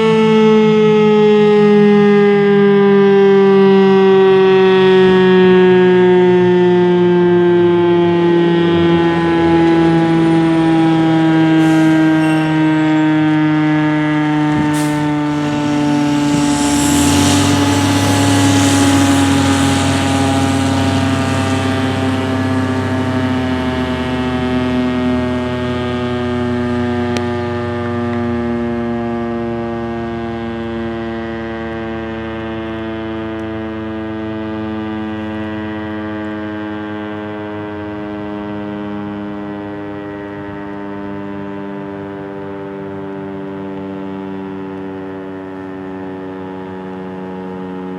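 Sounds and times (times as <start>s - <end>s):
warning siren wail: 0.0s - 47.9s.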